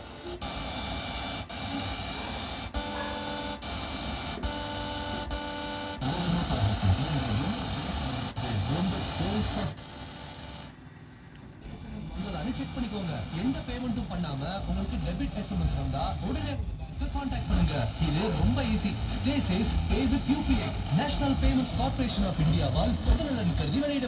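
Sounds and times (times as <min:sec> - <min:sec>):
radio broadcast through speakers: 0:00.0 - 0:24.0
radio reception hiss: 0:00.0 - 0:24.0.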